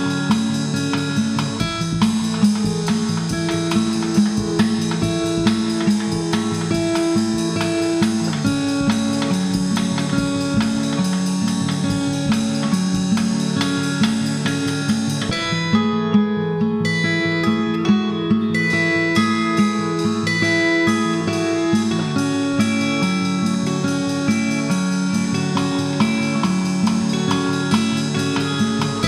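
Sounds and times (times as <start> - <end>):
plucked guitar music: 0.0 - 29.0.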